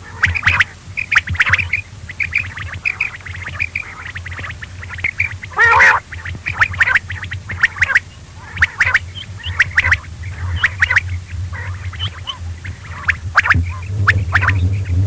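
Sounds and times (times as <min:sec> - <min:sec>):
quail chirping: 0:00.0 - 0:14.9
low hum: 0:00.0 - 0:15.0.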